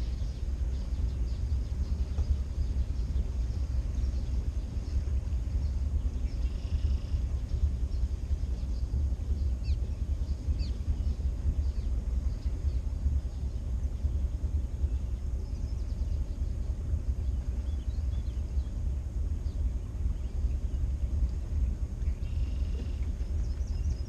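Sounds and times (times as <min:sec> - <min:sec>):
faint bird chirps: 0:00.0 - 0:24.0
motorboat engine rumble: 0:00.0 - 0:24.0.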